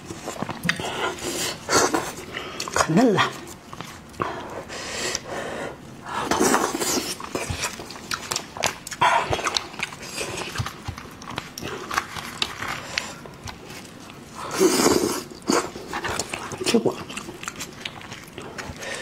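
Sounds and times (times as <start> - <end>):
wet chewing and slurping: 0.0 - 5.3, 6.2 - 19.0.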